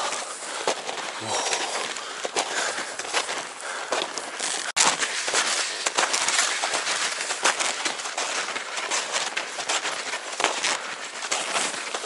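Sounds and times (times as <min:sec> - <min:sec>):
footsteps crunching on snow: 0:00.0 - 0:12.0.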